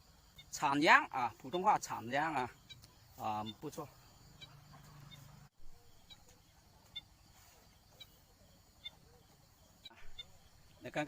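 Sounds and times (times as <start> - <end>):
faint high bird chirps: 0.0 - 11.0.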